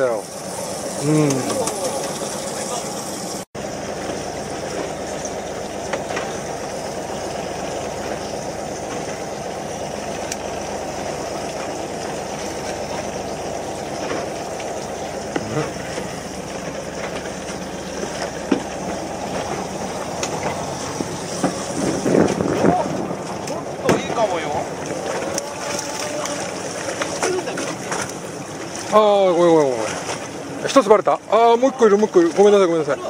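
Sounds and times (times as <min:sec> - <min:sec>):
boat engine idling: 0:00.0 - 0:33.0
sea noise: 0:00.0 - 0:33.0
wind: 0:00.0 - 0:33.0.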